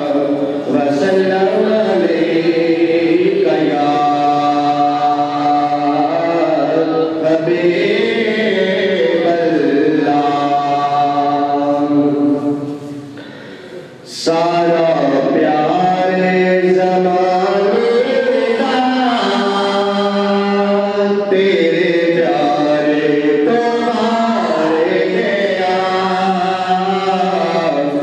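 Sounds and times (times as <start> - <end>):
man singing into microphone: 0.0 - 28.0.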